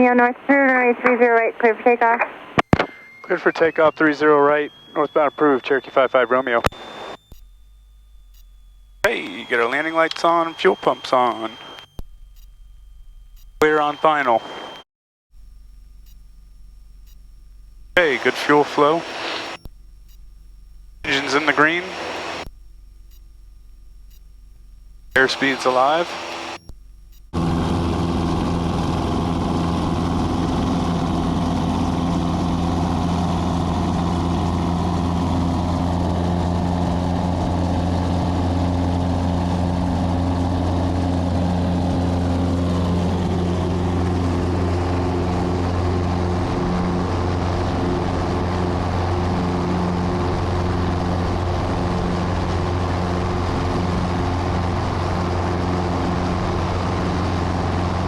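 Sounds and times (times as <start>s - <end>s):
airplane engine and propeller drone: 0.0s - 7.2s, 8.0s - 12.0s, 13.6s - 14.8s, 15.4s - 19.6s, 21.0s - 22.5s, 24.5s - 26.7s, 27.3s - 58.0s.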